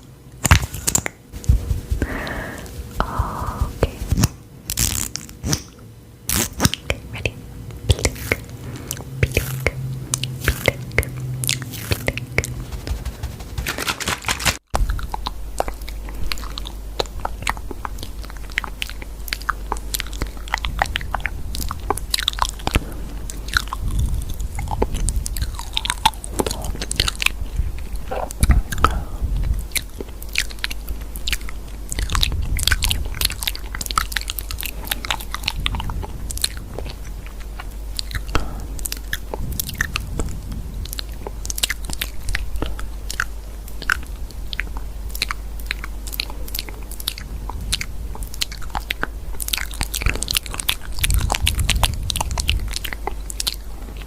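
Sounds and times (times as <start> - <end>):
low hum: 0.0 - 54.0
crisp clicks and crunches: 7.9 - 54.0.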